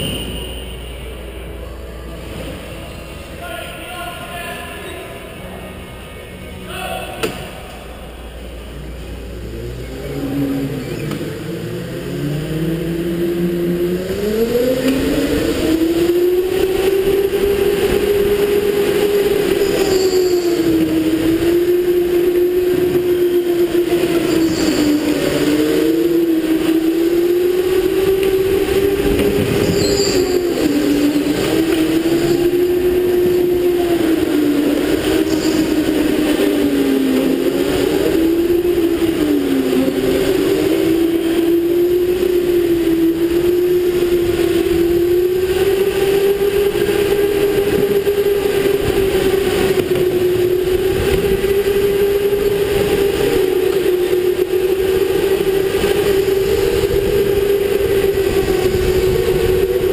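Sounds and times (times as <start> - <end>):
tyre and track noise: 9.1 - 59.9.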